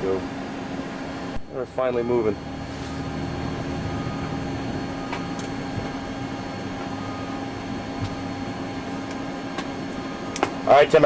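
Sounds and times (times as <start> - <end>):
machinery hum and whine: 0.0 - 11.0.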